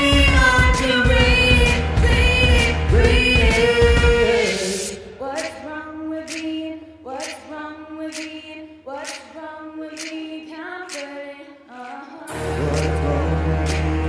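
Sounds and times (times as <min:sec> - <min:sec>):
a cappella group singing: 0:00.0 - 0:14.0.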